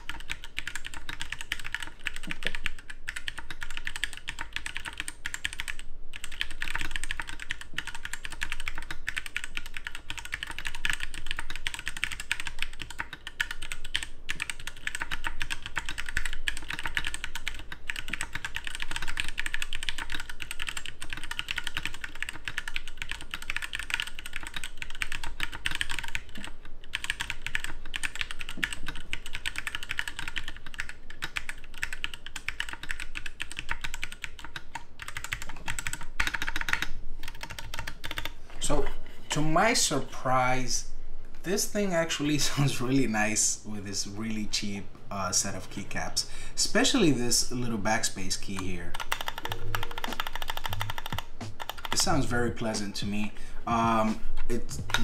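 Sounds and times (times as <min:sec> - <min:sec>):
mechanical keyboard typing: 0:00.0 - 0:38.4, 0:48.5 - 0:53.2, 0:54.0 - 0:55.0.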